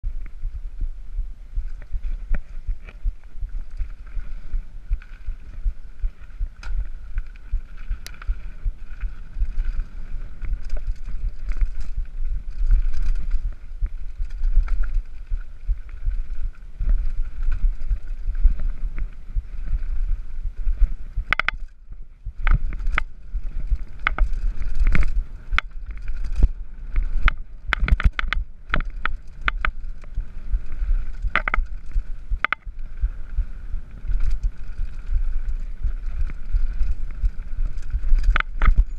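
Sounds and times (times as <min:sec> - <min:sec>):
wind rumbling on microphone: 0:00.0 - 0:38.9
bike rattling over bumps: 0:01.6 - 0:38.9.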